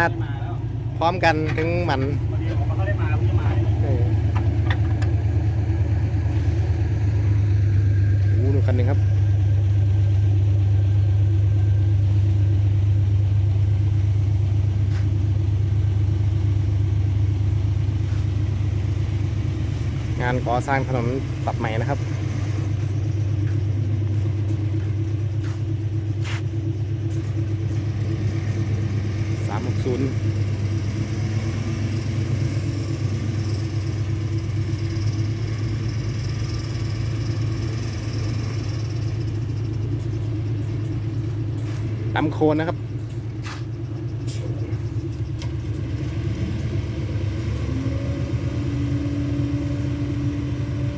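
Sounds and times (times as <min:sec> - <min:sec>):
vehicle engine humming: 0:00.0 - 0:50.9.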